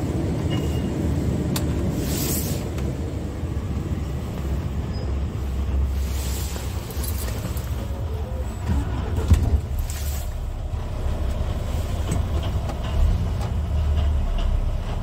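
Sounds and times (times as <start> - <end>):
diesel engine drone: 0.0 - 15.0
road noise: 0.0 - 15.0.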